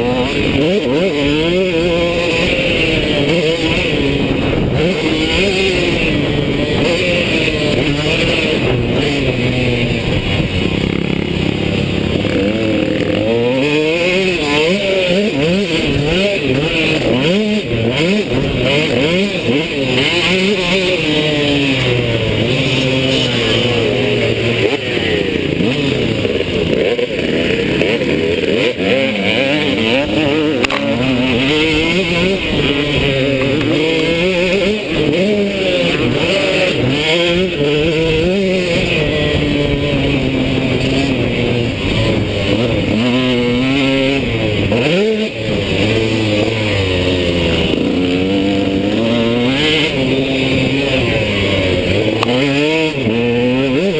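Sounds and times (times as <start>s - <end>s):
two-stroke motocross engine revving: 0.0s - 53.9s.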